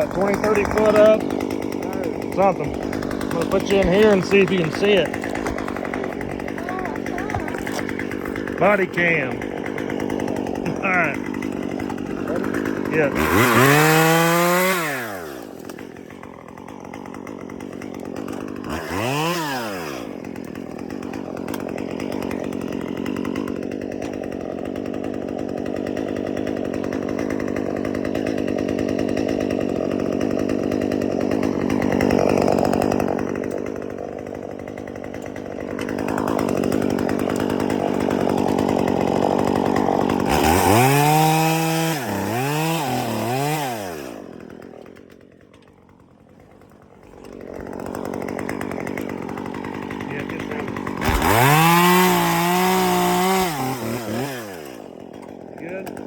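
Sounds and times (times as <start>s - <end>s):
chainsaw revving and cutting: 0.0s - 56.0s.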